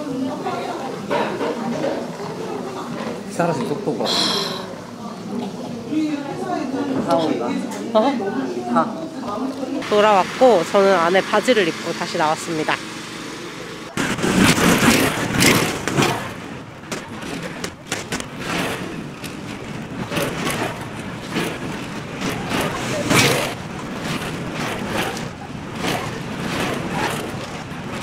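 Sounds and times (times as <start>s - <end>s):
go-kart engine passing: 0.0s - 28.0s
karts running around track: 0.0s - 28.0s.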